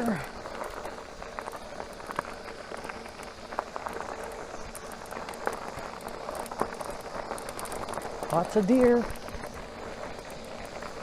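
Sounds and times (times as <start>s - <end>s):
bicycle drivetrain clicks and rattles: 0.0s - 11.0s
bicycle tyres rolling hiss: 0.0s - 11.0s.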